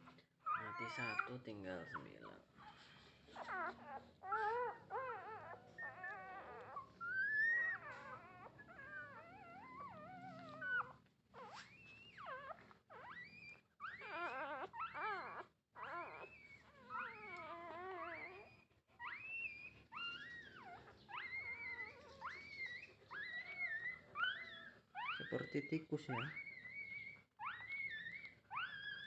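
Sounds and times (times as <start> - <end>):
puppies whining and squealing: 0.0 - 29.0.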